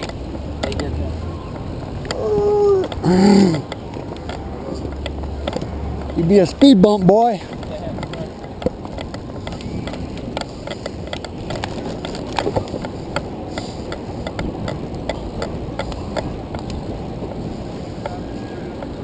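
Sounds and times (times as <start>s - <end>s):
tyres rumbling on pavement: 0.0s - 19.0s.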